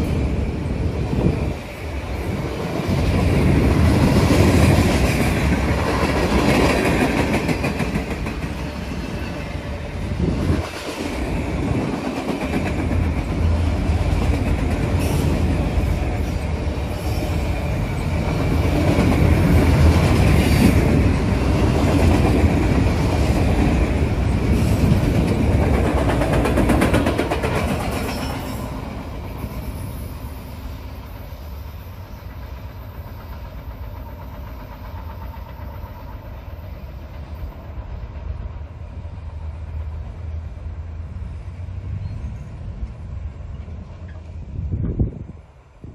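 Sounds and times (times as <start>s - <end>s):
freight train wheels on rail: 0.0s - 45.9s.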